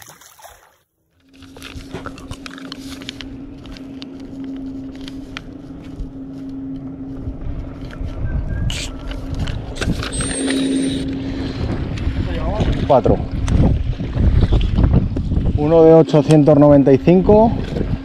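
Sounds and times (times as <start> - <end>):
steady low hum: 1.1 - 18.0
wind rumbling on microphone: 1.4 - 18.0.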